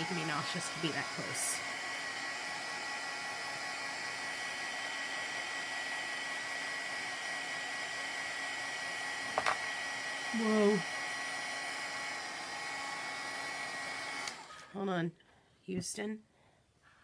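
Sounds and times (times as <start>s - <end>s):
hair dryer whining: 0.0s - 14.8s.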